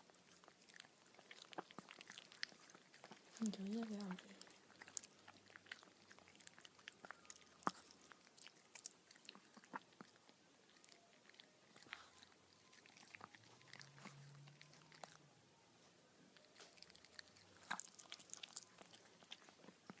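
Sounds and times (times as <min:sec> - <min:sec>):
dog chewing food: 0:00.0 - 0:15.2, 0:16.4 - 0:20.0.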